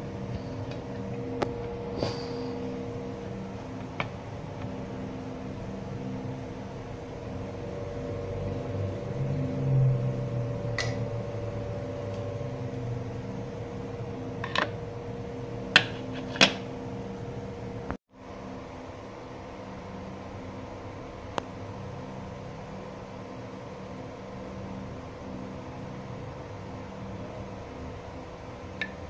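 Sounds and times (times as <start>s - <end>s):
stove humming with low rumble: 0.0s - 29.0s.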